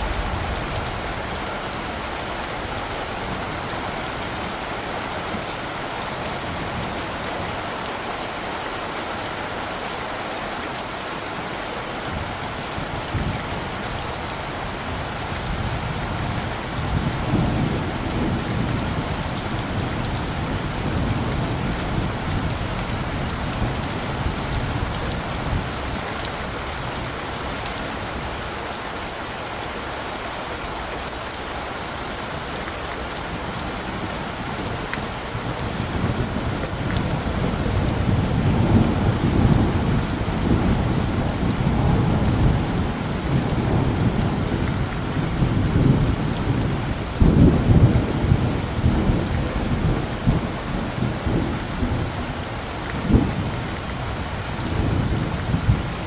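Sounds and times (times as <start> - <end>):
low rolling thunder: 0.0 - 7.4, 12.0 - 27.6, 33.2 - 56.0
steady rain falling: 0.0 - 56.0.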